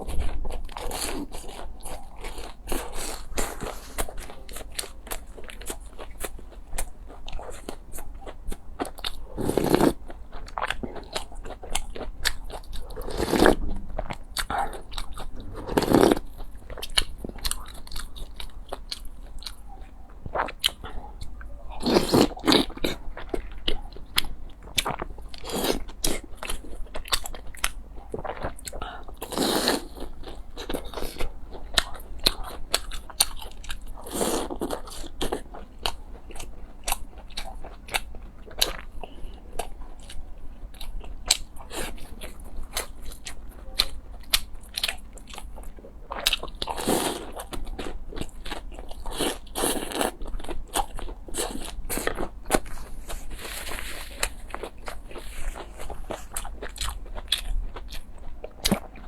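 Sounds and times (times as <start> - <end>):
crunchy bites and chewing: 0.0 - 59.0.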